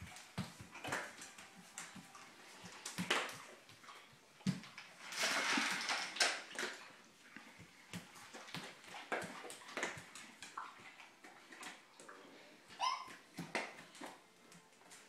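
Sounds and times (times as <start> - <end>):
dogs crunching dry food: 0.0 - 12.4.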